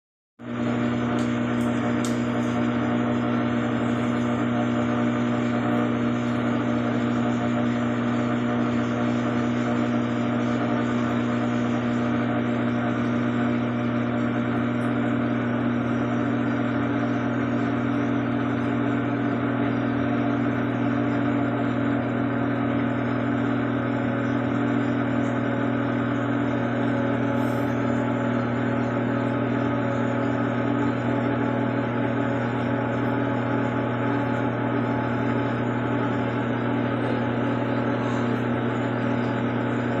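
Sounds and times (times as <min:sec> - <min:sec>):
washing machine drain pump hum: 0:00.4 - 0:40.0.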